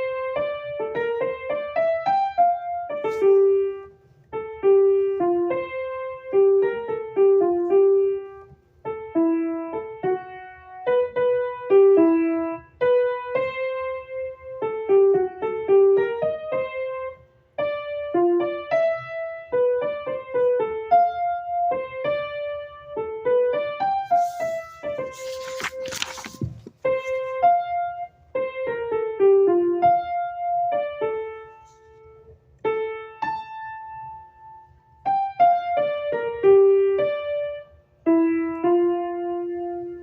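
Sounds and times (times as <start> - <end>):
piano melody: 0.0 - 40.0.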